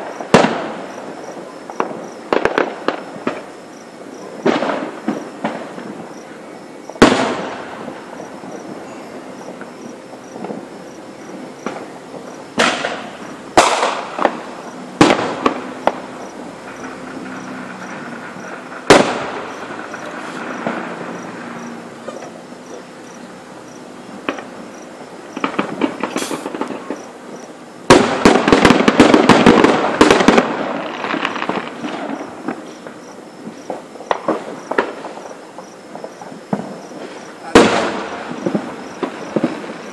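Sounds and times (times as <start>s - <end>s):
firework shells bursting: 0.0s - 6.2s, 6.8s - 39.9s
rapid fireworks crackling: 0.0s - 39.9s.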